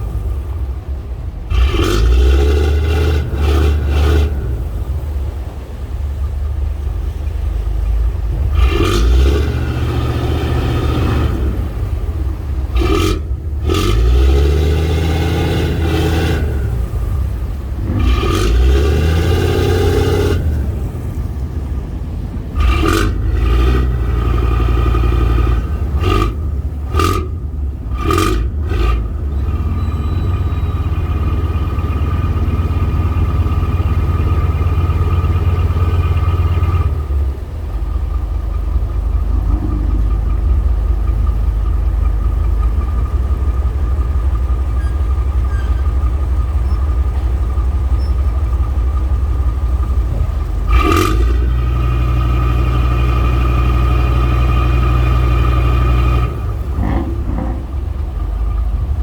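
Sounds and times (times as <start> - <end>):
tugboat engine running: 0.0 - 59.0.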